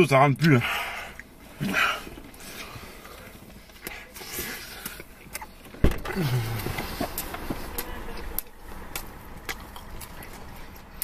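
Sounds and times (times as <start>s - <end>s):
men chewing food: 0.4s - 11.0s.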